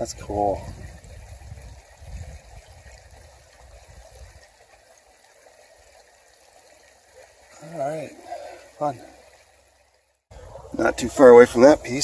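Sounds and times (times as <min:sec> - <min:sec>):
creek water flowing over gravel: 0:00.0 - 0:12.0.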